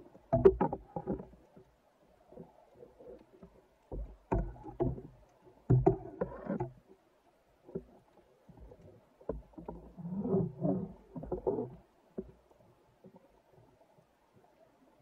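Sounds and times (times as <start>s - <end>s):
underwater knocks and scraping: 0.0s - 14.5s.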